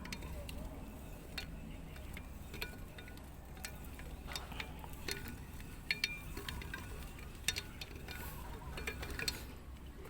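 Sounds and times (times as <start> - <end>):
low steady hum: 0.0 - 10.0
metal clicks and clinks: 0.0 - 10.0.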